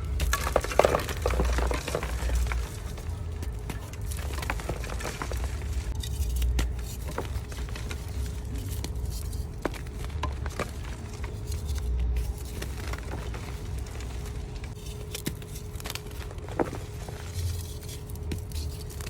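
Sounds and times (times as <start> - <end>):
low uneven rumble: 0.0 - 18.3
chalk blocks crunching: 0.0 - 19.0.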